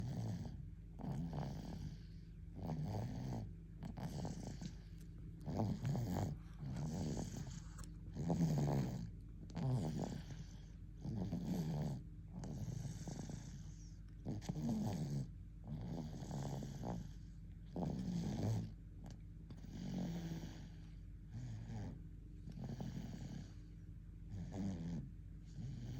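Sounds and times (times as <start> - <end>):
baby snoring: 0.0 - 4.8, 5.4 - 18.8, 19.5 - 23.6, 24.3 - 25.9.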